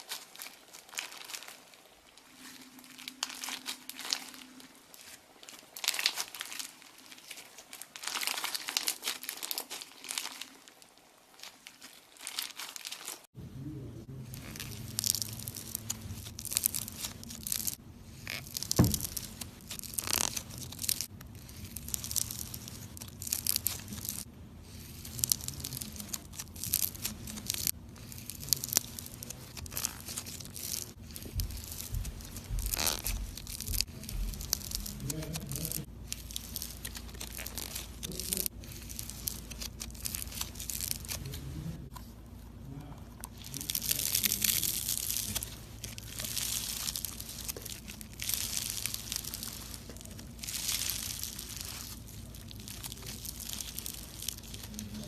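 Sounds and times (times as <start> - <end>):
crunchy slime squeezed by hand: 0.0 - 13.2, 14.2 - 41.9, 42.6 - 55.0.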